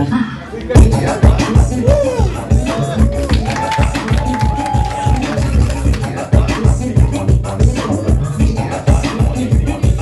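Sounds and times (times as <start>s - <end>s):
dance music with heavy bass beat: 0.7s - 10.0s.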